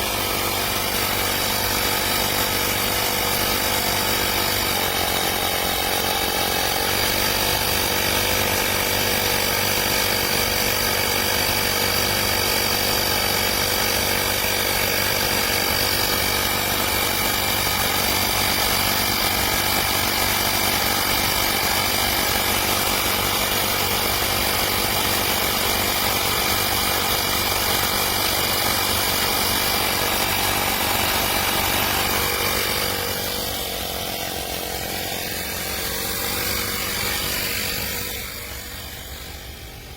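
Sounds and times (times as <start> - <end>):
tyre inflator compressor buzzing: 0.0 - 39.9.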